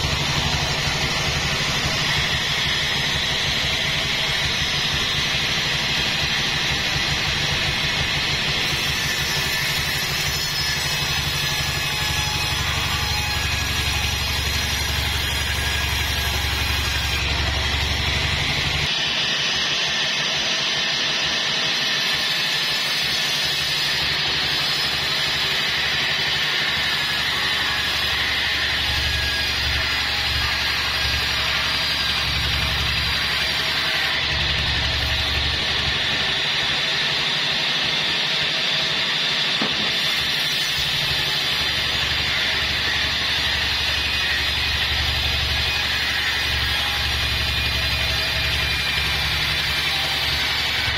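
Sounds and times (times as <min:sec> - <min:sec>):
saw blade cutting log: 0:00.0 - 0:20.0, 0:20.8 - 0:50.9.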